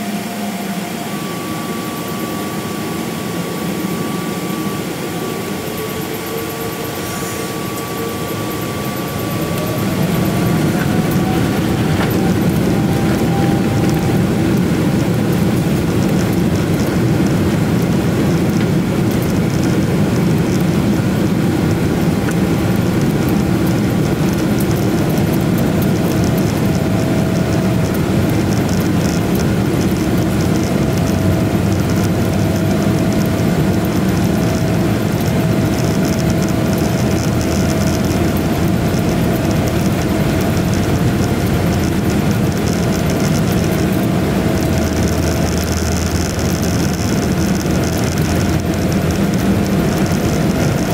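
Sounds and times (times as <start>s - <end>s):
faint steady whine: 0.0s - 50.9s
jet engine rumble and hiss: 0.0s - 50.9s.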